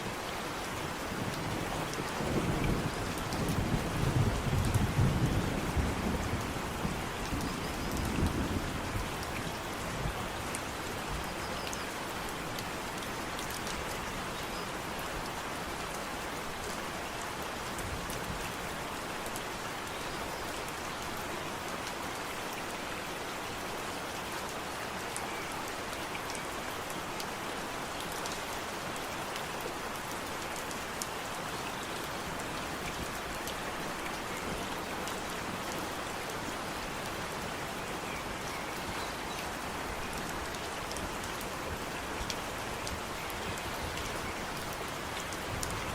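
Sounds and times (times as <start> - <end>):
rain falling on foliage: 0.0 - 45.9.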